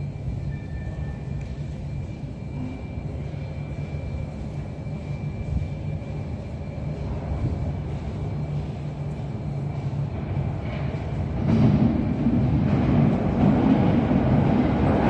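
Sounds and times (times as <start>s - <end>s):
faint high whine: 0.0s - 13.4s
metro train rumbling in tunnel: 0.0s - 15.0s.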